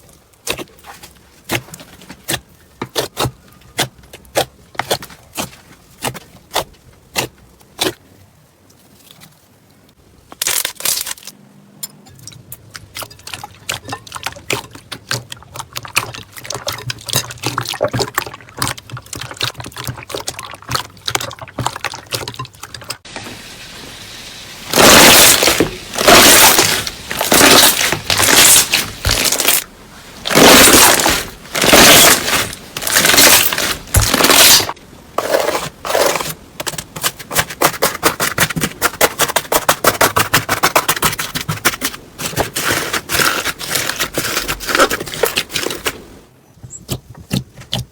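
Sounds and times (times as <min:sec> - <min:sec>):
slime squishing: 0:00.0 - 0:08.0, 0:12.5 - 0:23.1, 0:24.7 - 0:46.0.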